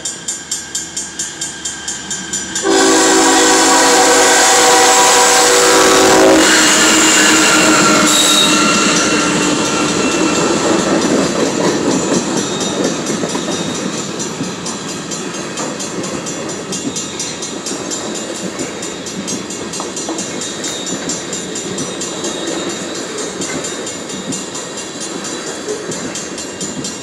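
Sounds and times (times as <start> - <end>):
diesel locomotive passing: 0.0 - 27.0
train wheels rolling on rails: 0.0 - 27.0.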